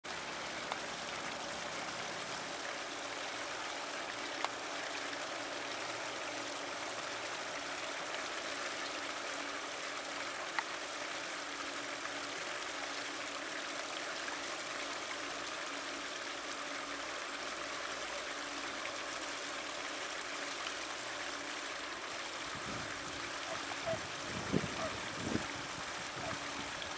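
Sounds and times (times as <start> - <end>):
stream water rushing over weir: 0.1 - 26.9.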